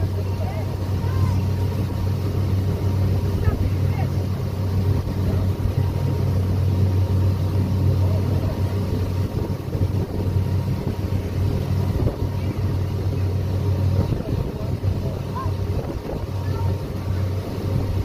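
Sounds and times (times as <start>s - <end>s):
ferry engine drone: 0.0s - 18.0s
water rushing: 0.0s - 18.0s.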